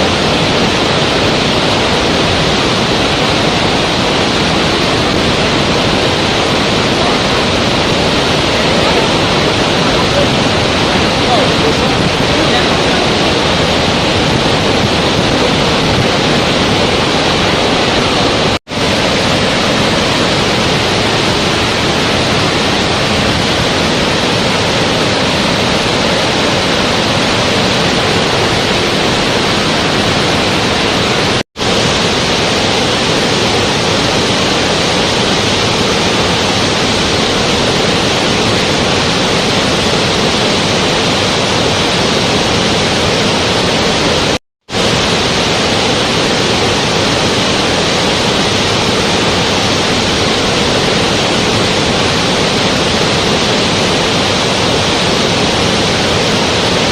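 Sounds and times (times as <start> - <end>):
loud rushing noise: 0.0 - 56.9.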